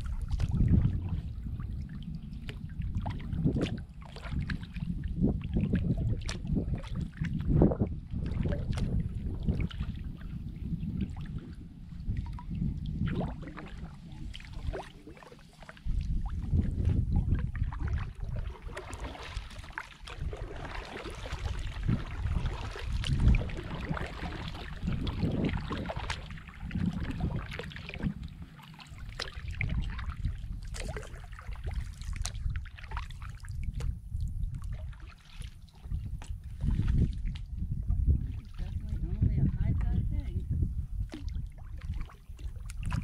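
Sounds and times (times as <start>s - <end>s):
paddles dipping in water: 0.0s - 43.0s
wind rumble on microphone: 0.0s - 43.0s.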